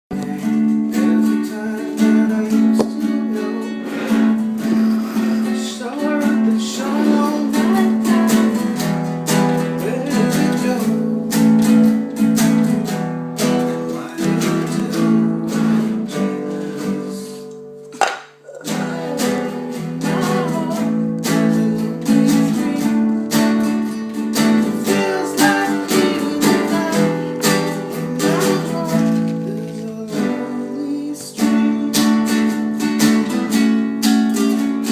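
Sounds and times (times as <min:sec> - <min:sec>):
strummed acoustic guitar music: 0:00.1 - 0:34.9.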